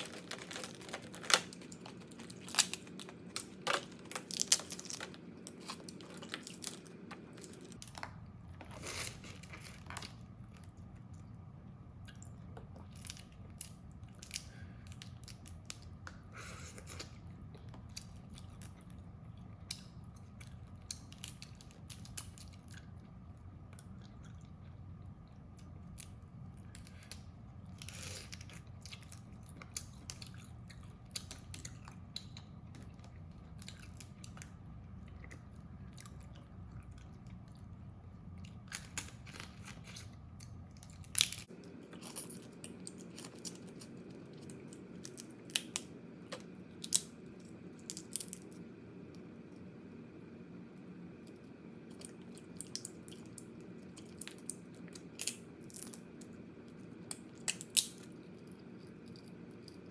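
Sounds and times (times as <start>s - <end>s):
chewing with small crunches: 0.0s - 59.9s
steady low hum: 0.0s - 59.9s.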